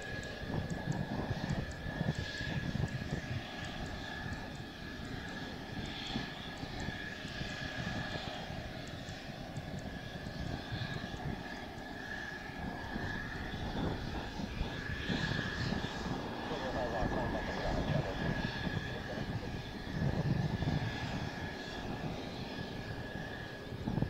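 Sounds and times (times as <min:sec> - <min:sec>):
jet engine idling: 0:00.0 - 0:24.0.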